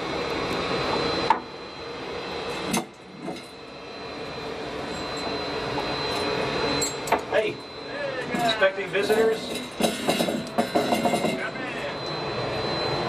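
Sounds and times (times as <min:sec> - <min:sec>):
thin high whine: 0:00.0 - 0:13.0.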